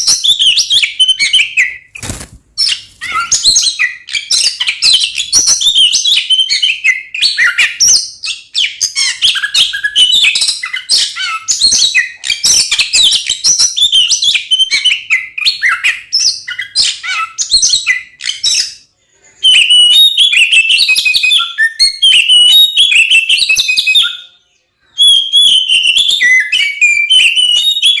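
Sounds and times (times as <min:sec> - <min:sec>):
bird singing whistles and chatters: 0:00.0 - 0:01.9, 0:02.6 - 0:28.0.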